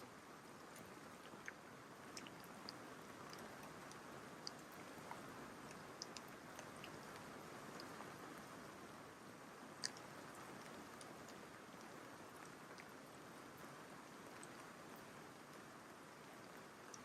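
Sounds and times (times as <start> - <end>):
light rain falling: 0.0 - 17.0
raindrops ticking: 0.6 - 8.8, 9.8 - 17.0.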